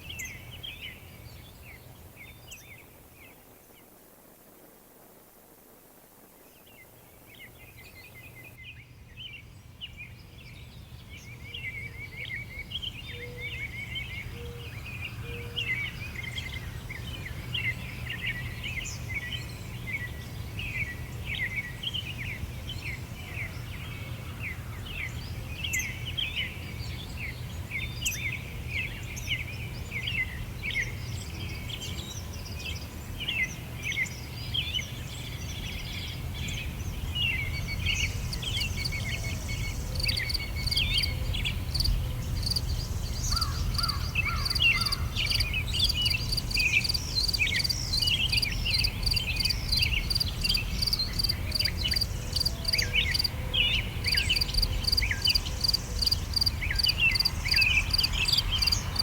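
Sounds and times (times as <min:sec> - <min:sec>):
songbirds chirping: 0:00.0 - 0:05.1, 0:05.8 - 0:59.0.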